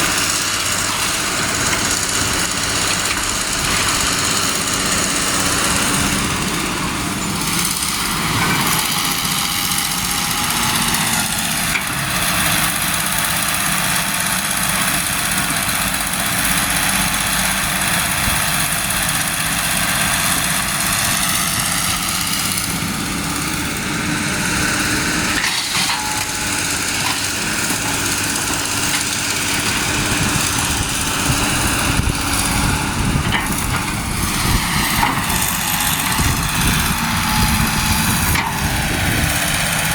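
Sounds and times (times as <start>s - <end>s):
truck engines running: 0.0s - 39.9s.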